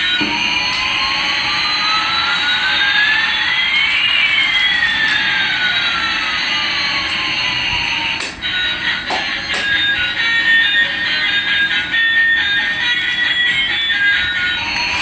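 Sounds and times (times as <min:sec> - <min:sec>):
jet engine whining tones: 0:00.0 - 0:15.0.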